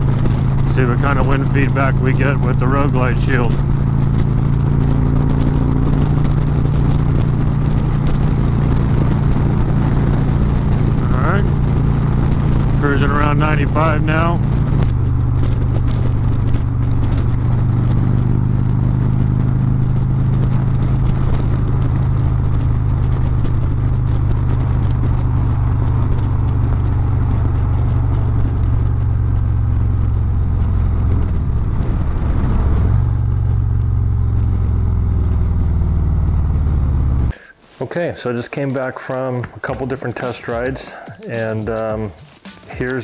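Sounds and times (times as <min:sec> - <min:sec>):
motorcycle engine cruising: 0:00.0 - 0:37.4, 0:38.5 - 0:43.0
wind rushing: 0:00.0 - 0:37.4.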